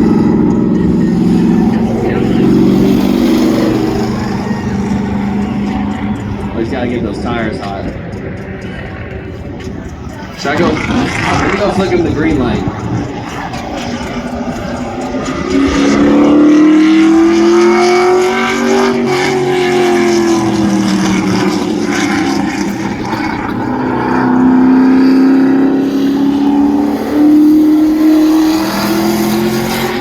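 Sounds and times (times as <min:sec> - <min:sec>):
truck engine revving high: 0:00.0 - 0:30.0.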